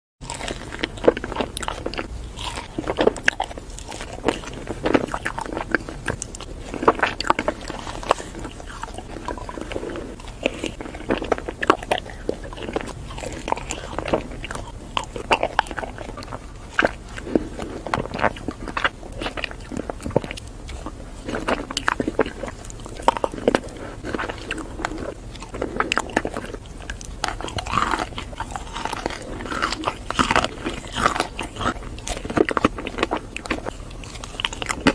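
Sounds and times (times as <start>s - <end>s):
crunching bites of ice cream: 0.2s - 34.9s
wet chewing: 0.2s - 34.9s.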